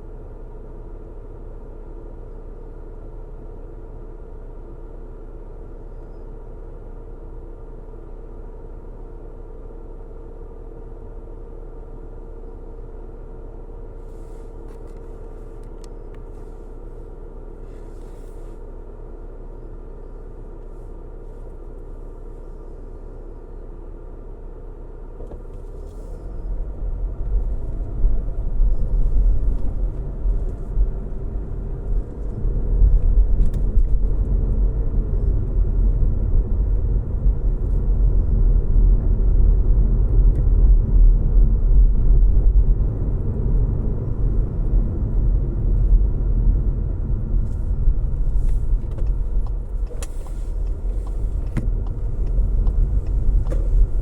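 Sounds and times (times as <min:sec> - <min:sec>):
car road rumble and engine hum: 0:00.0 - 0:54.0.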